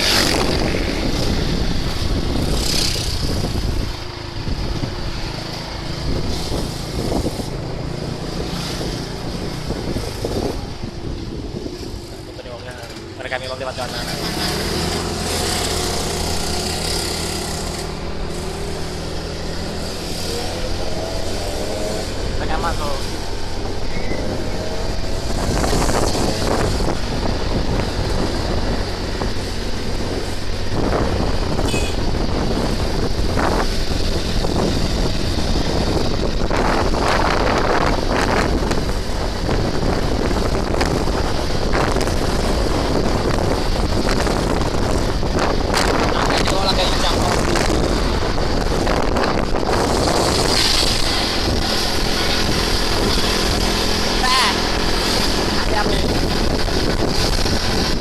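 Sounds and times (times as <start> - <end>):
motorcycle engine revving: 0.0 - 58.0
wind buffeting microphone: 0.0 - 58.0.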